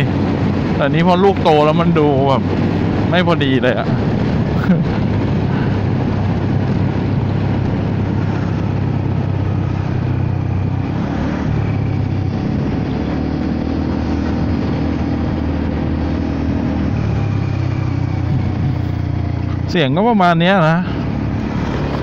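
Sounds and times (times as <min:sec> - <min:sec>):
scooter engine running: 0:03.9 - 0:22.0.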